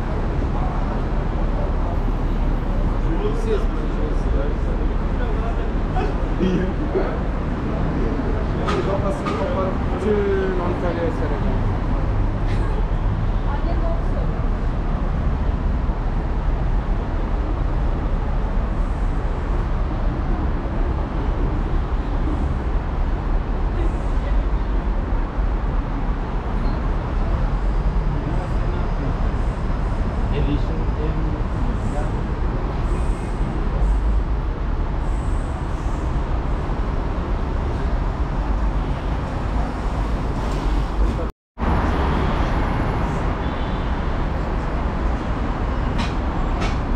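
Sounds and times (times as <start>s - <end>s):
city street traffic rumble: 0.0s - 46.9s.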